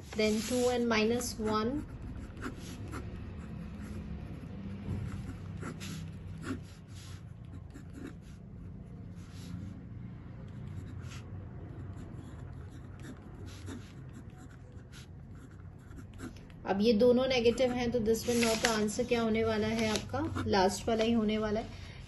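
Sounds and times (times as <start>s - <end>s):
pen writing on paper: 0.1s - 9.7s, 10.4s - 16.6s, 17.3s - 21.1s.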